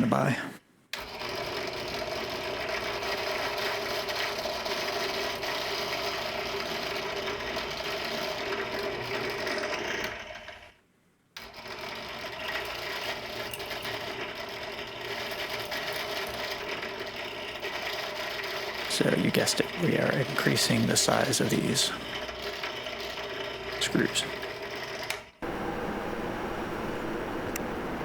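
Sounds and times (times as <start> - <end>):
power drill running: 1.0 - 10.6, 11.4 - 28.0.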